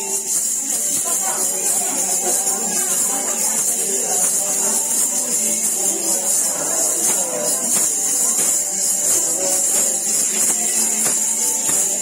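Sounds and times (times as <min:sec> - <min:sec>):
high jingling percussion: 0:00.0 - 0:12.0
music with steady beat: 0:00.0 - 0:12.0.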